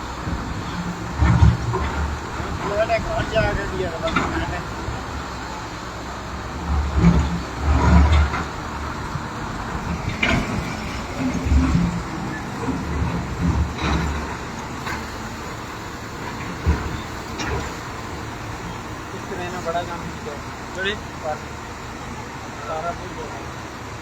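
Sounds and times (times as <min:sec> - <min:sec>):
heavy construction machinery running: 0:00.0 - 0:24.0.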